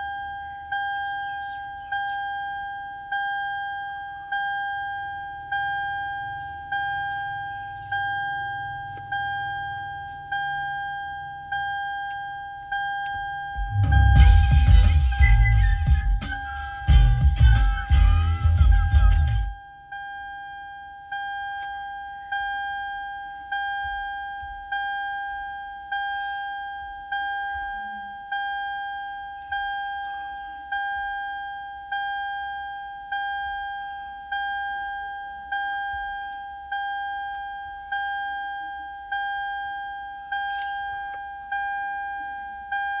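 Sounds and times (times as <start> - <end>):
car warning chime dinging: 0.0 - 43.0.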